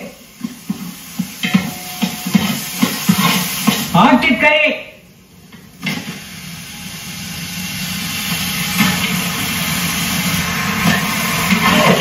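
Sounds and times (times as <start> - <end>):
pot rumbling and hissing on fire: 0.0 - 4.1, 5.7 - 12.0.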